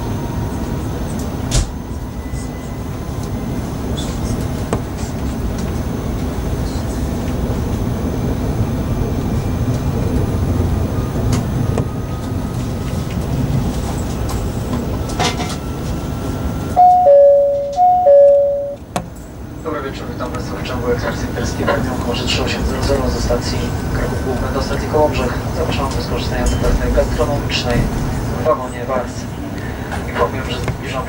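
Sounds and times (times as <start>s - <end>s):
train interior rumble: 0.0s - 31.0s.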